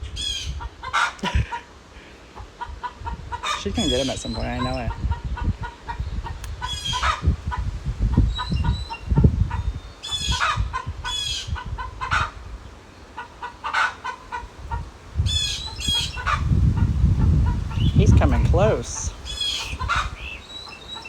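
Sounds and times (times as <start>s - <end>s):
chickens clucking and squawking: 0.1s - 21.0s.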